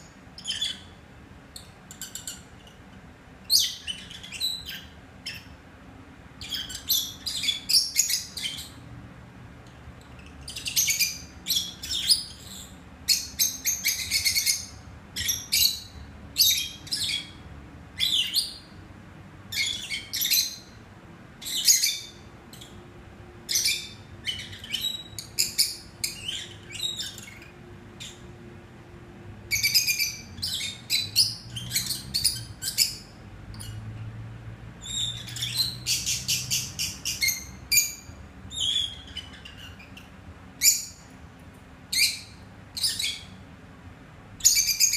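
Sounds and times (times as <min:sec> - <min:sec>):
lovebirds chirping: 0:00.0 - 0:05.6, 0:06.4 - 0:08.9, 0:10.0 - 0:18.8, 0:19.5 - 0:22.9, 0:23.5 - 0:28.5, 0:29.4 - 0:34.1, 0:34.8 - 0:41.2, 0:41.9 - 0:43.5, 0:44.4 - 0:44.9.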